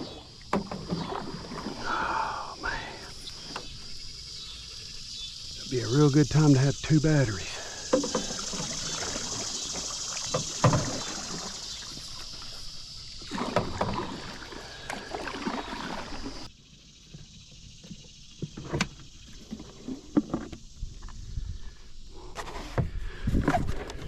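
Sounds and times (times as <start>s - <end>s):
high insect buzz: 0.0s - 23.3s.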